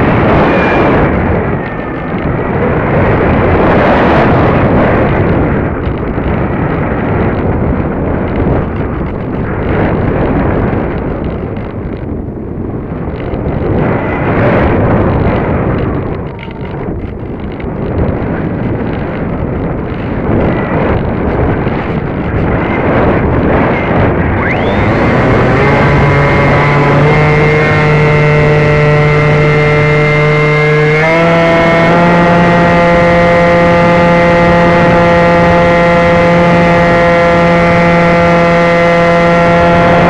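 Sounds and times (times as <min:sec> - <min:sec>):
airflow rushing over microphone: 0:00.0 - 0:40.0.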